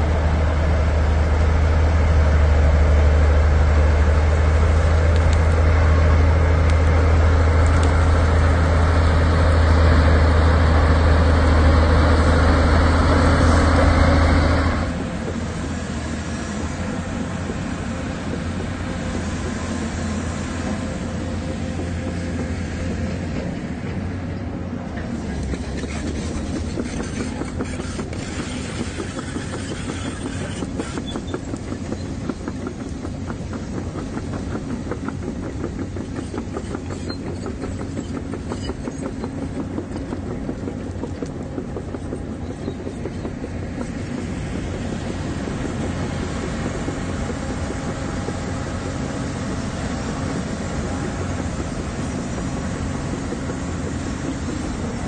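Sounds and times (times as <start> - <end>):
heavy machinery diesel engine drone: 0.0 - 55.0.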